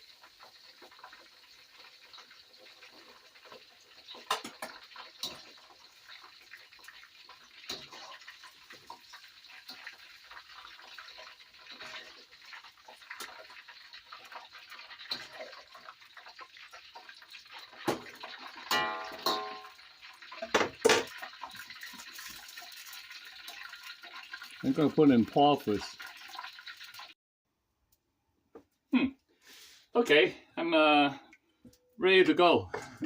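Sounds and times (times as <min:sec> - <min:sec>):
water running from a tap: 0:00.0 - 0:27.2.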